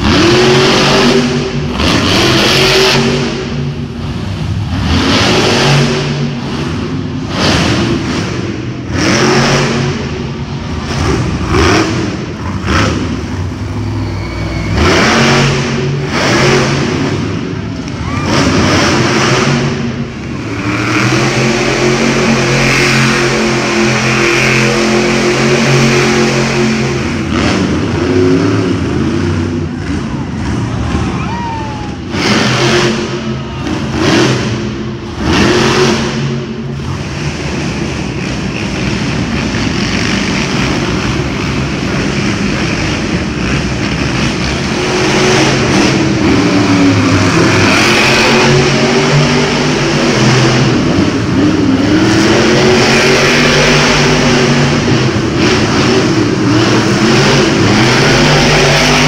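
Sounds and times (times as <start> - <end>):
truck engines revving: 0.0 - 59.0.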